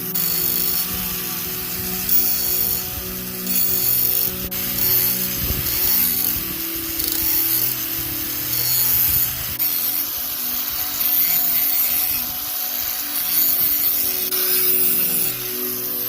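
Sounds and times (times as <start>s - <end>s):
faint steady tones: 0.0s - 16.0s
hand tool rasping strokes: 0.0s - 16.0s.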